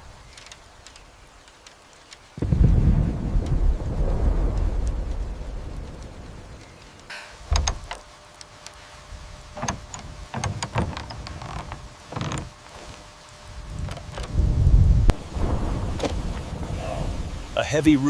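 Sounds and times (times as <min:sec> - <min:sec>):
wood and rope creaking: 0:00.0 - 0:02.4, 0:03.2 - 0:17.0.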